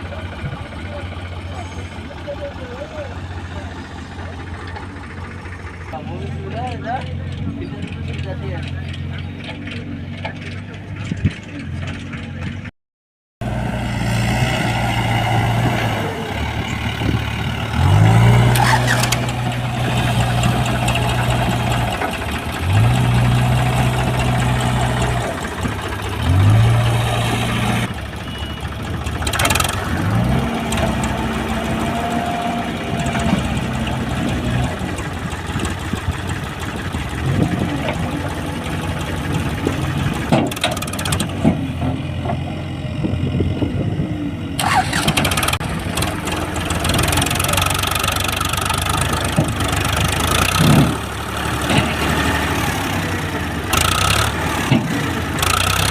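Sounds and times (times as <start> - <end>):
diesel engine revving: 0.0 - 12.7, 13.4 - 55.9.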